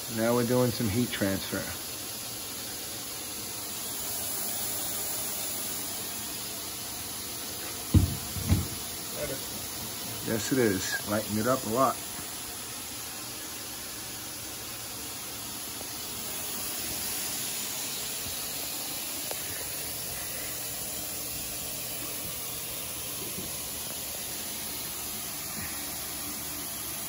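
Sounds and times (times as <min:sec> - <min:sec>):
carpet cleaning machine hissing: 0:00.0 - 0:27.0.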